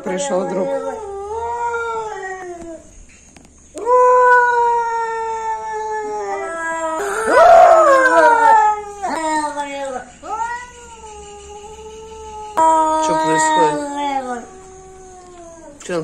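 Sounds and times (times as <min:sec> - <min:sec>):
cats yowling: 0:00.0 - 0:03.1, 0:03.7 - 0:16.0.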